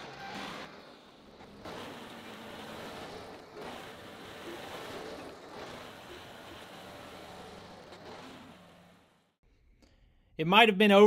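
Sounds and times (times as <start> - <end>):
track loader engine hum: 0.0 - 9.9.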